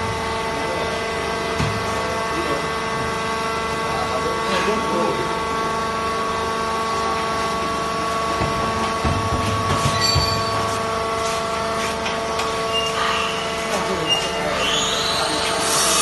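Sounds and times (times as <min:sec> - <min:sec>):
hydraulic power unit whine: 0:00.0 - 0:16.0.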